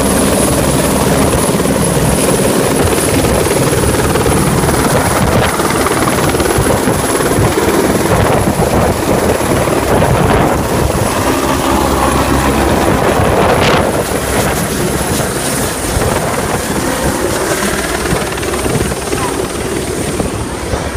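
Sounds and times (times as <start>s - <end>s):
helicopter rotor and engine: 0.0s - 20.9s.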